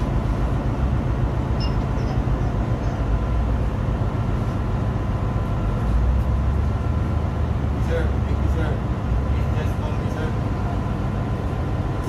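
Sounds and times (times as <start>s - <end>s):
ship deck low rumble: 0.0s - 12.0s.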